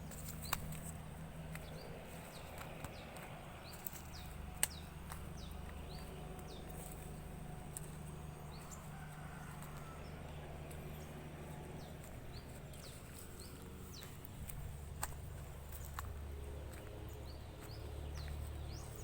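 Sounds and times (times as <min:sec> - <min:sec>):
steady low hum: 0:00.0 - 0:19.0
wild birds chirping: 0:00.0 - 0:19.0.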